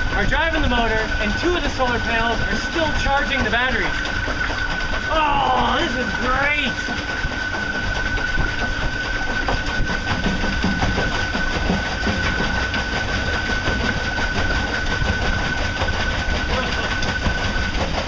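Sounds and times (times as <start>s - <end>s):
electric outboard motor whine: 0.0s - 18.0s
low rumble of water and hull: 0.0s - 18.0s
rattling vibration: 0.0s - 18.0s.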